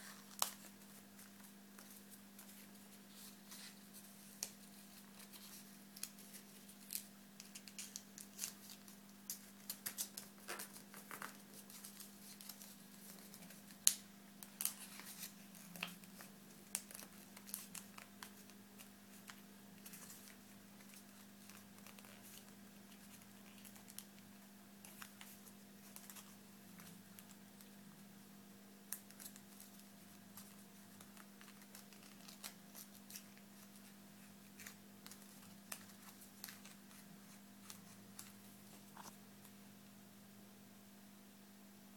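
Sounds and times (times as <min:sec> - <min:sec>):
paper being folded and creased: 0:00.0 - 0:27.8, 0:28.9 - 0:39.2.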